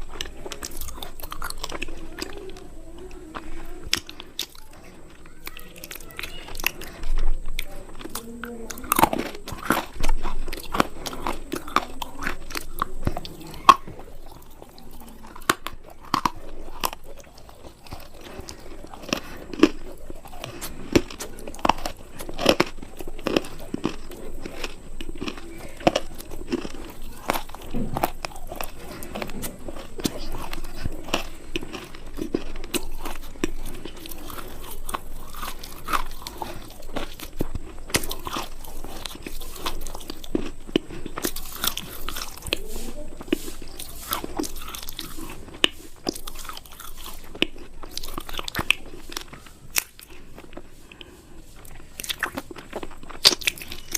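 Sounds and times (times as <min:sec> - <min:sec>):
crunchy chewing: 0:00.0 - 0:53.9.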